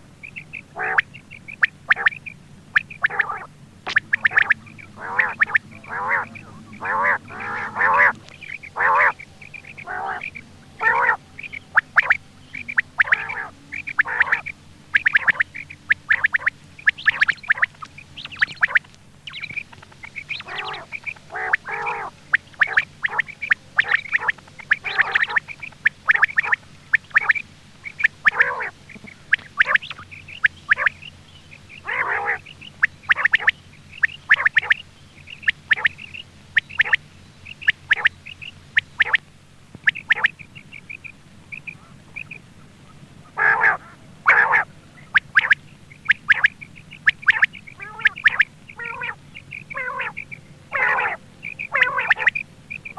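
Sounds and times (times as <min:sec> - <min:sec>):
quail call: 0:00.0 - 0:39.2, 0:39.8 - 0:52.9.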